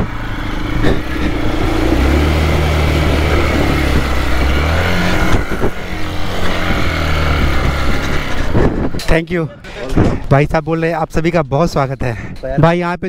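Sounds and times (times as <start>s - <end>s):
motorcycle engine under load: 0.0s - 10.5s.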